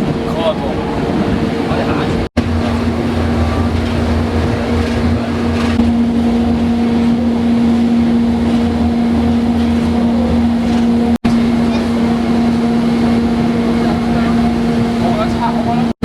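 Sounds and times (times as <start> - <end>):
train engine droning: 0.0 - 16.0.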